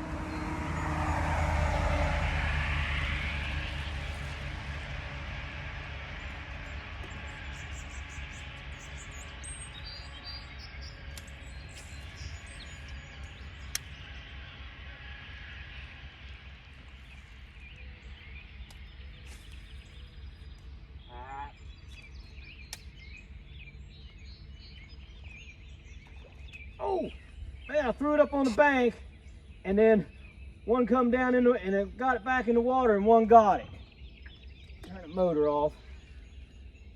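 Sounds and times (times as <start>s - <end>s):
electric trolling motor humming: 0.0s - 29.6s
small birds chirping: 6.2s - 36.9s.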